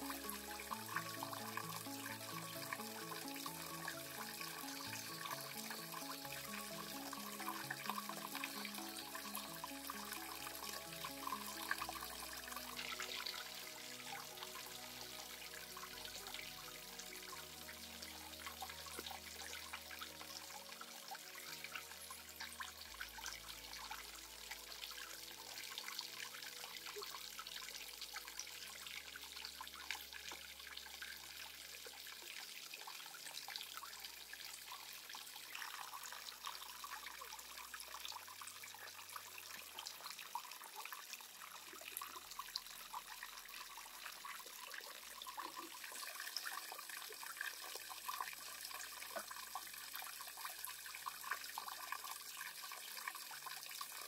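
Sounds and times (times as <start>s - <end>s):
water trickling into a pond: 0.0s - 54.0s.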